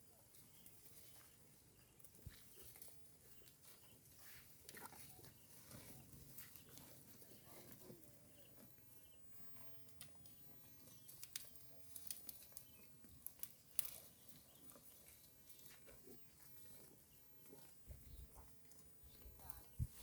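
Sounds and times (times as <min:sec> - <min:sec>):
cows tearing and chewing grass: 0:00.0 - 0:08.7, 0:09.4 - 0:20.0.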